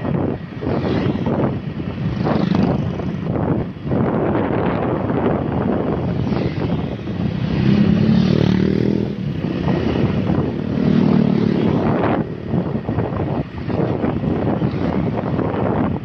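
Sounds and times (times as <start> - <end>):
traffic engines droning: 0.0 - 16.0
wind buffeting microphone: 0.0 - 16.0.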